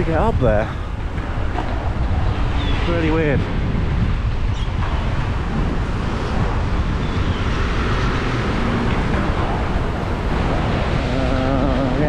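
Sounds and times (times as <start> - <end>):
road traffic rumble: 0.0 - 12.0
wind buffeting microphone: 0.0 - 12.0.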